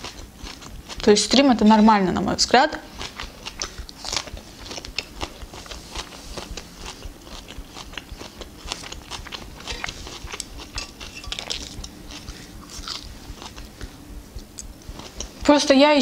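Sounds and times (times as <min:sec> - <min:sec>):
chewing and biting food: 0:00.0 - 0:01.5, 0:02.8 - 0:15.4.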